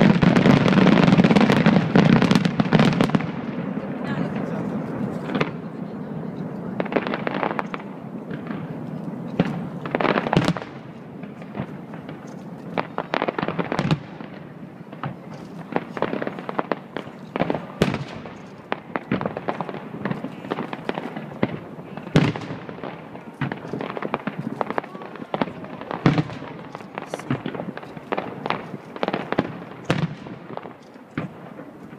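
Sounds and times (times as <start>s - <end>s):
fireworks bangs and crackles: 0.0s - 31.9s
loud firework booms: 0.0s - 31.9s.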